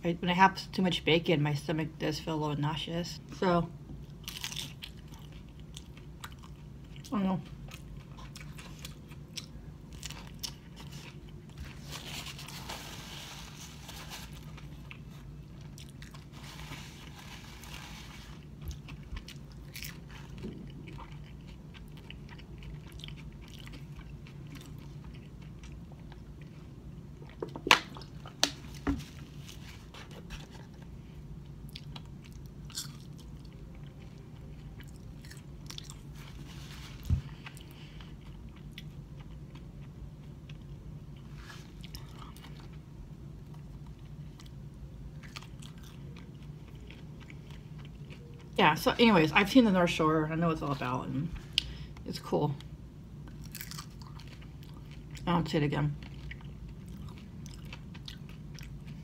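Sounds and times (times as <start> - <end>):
steady low hum: 0.0 - 59.0
crunchy chewing: 4.1 - 48.6, 53.2 - 55.2, 55.9 - 59.0.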